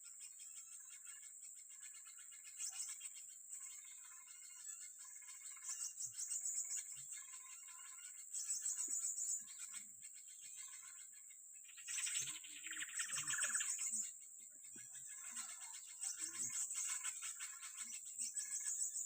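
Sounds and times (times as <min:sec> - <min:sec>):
insects buzzing: 0:00.0 - 0:19.0
small songbird chirping: 0:00.0 - 0:19.0
bird trilling: 0:00.2 - 0:19.0.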